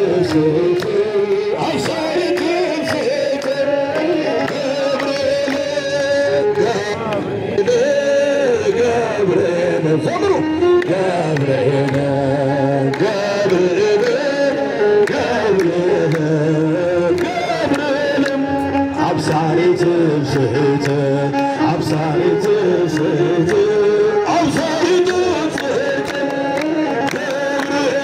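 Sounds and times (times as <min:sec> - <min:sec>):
person singing ornamented hymn: 0:00.0 - 0:28.0.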